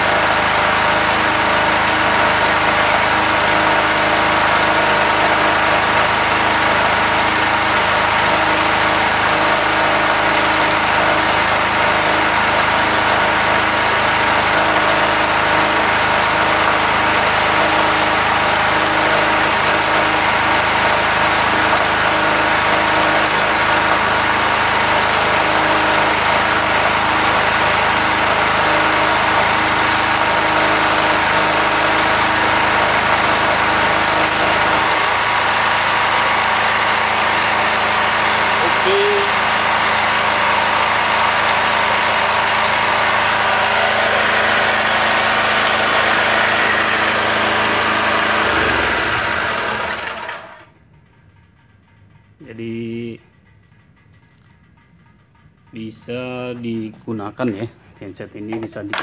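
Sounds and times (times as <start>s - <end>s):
welding arc sizzling: 0.0s - 50.7s
generator engine running: 0.0s - 59.0s.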